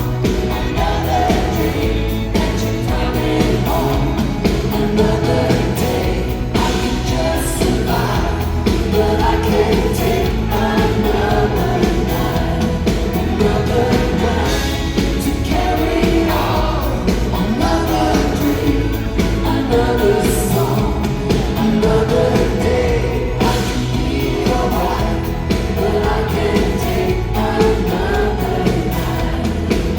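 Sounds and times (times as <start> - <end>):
amplified band playing: 0.0 - 29.9
man singing live: 0.0 - 29.9.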